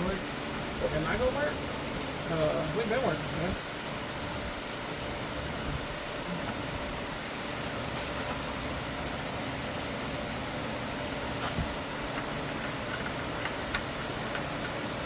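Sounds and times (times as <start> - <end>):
fan running: 0.0 - 15.0.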